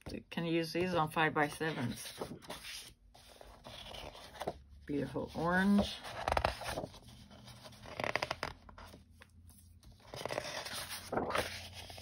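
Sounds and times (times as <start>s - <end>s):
paper sheets rustling: 1.4s - 9.0s, 9.6s - 12.0s.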